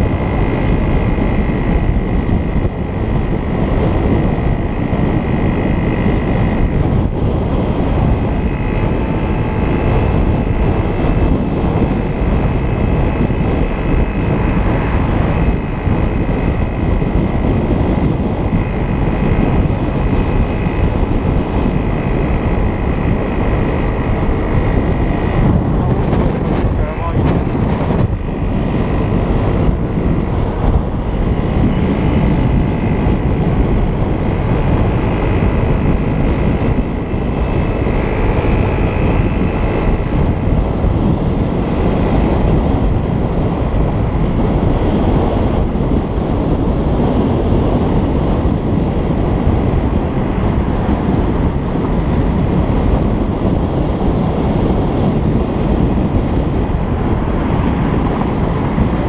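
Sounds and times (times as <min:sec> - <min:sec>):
moped engine running: 0:00.0 - 0:59.0
wind rushing over microphone: 0:00.0 - 0:59.0.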